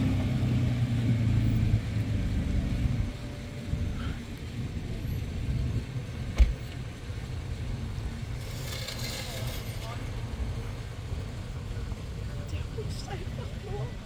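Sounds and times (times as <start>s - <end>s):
engine running: 0.0s - 12.2s.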